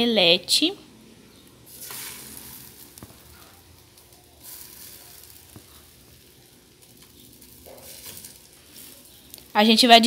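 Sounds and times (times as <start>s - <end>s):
batter sizzling in oil: 1.1s - 10.0s.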